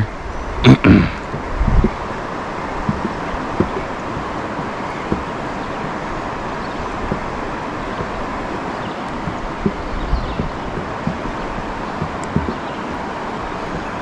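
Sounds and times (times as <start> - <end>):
soft low knocks: 0.0 - 14.0
swift river water rushing: 0.0 - 14.0.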